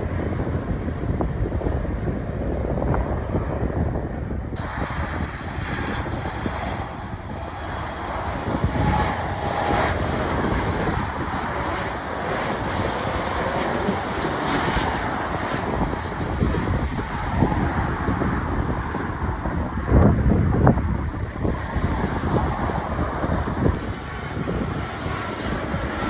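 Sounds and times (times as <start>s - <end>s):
airplane engines running: 0.0s - 26.0s.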